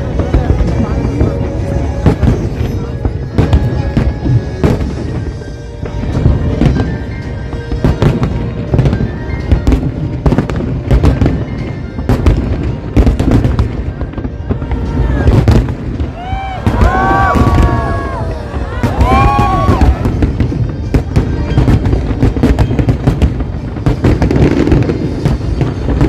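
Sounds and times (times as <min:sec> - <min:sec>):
fireworks booms and cracks: 0:00.0 - 0:26.0
music playing: 0:00.0 - 0:26.0.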